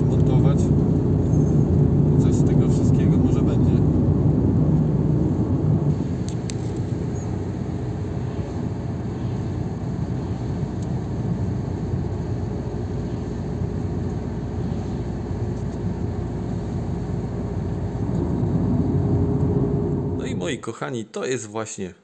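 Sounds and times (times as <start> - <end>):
car engine and tyre drone: 0.0 - 20.6.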